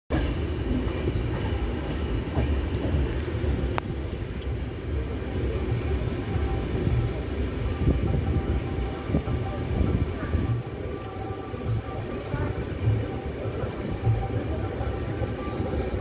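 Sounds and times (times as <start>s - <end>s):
train wheels rumbling: 0.1s - 16.0s.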